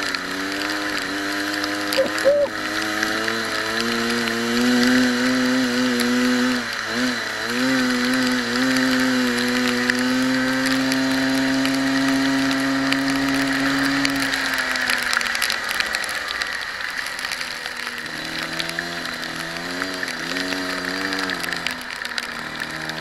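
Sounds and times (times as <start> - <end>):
kart engine at high revs: 0.0 - 23.0.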